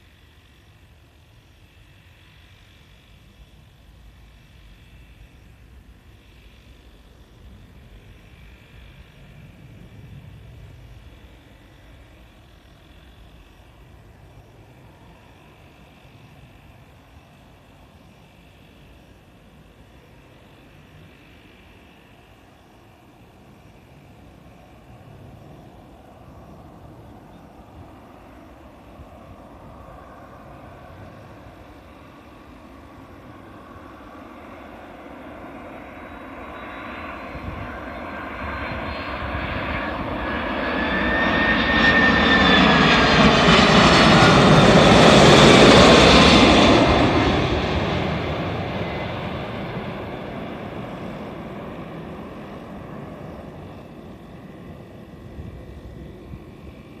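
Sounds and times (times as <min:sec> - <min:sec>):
high engine whine: 0:00.0 - 0:57.0
jet plane passing overhead: 0:00.0 - 0:57.0.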